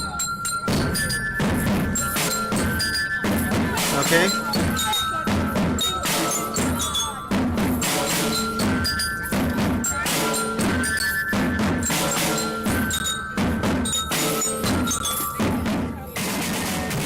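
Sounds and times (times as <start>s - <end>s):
bell-like mallet melody: 0.0s - 17.0s
steady drumbeat: 0.0s - 17.0s
marching band playing: 0.7s - 17.0s.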